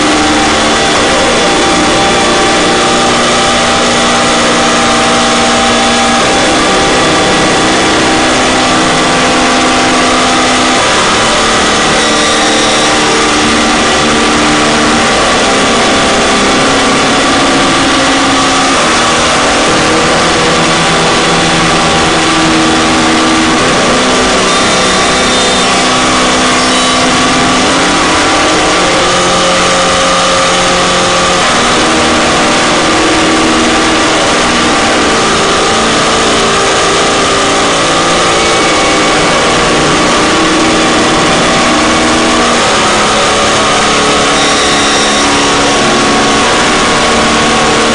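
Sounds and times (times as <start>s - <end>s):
harsh noise drone music: 0.0s - 47.9s.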